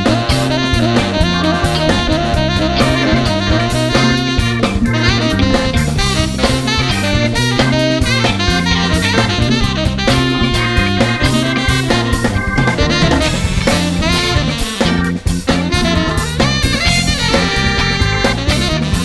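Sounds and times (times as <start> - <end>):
drum kit: 0.0 - 19.0
electric bass: 0.0 - 19.0
electric guitar: 0.0 - 19.0
saxophone: 0.0 - 19.0
trombone: 0.0 - 19.0.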